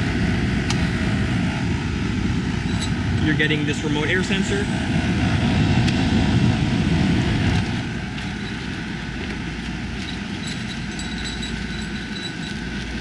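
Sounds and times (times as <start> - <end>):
air conditioner units running: 0.0 - 13.0.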